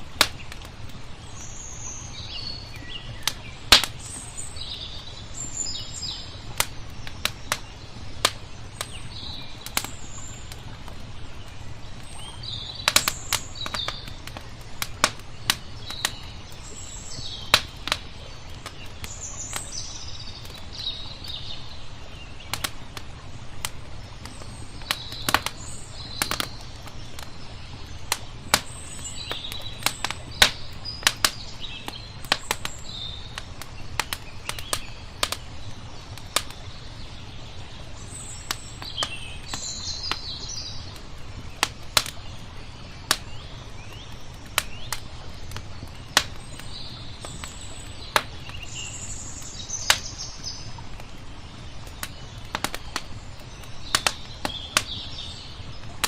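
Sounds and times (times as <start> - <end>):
small birds chirping: 0.0 - 56.0
wood fire crackling: 0.0 - 56.0.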